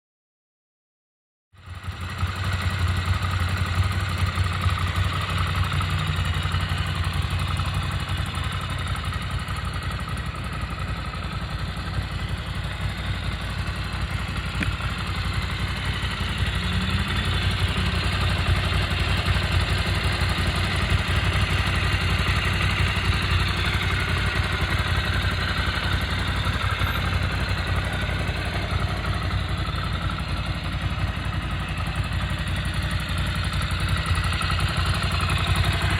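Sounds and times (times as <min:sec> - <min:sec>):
motorcycle engine idling: 0:01.6 - 0:35.9.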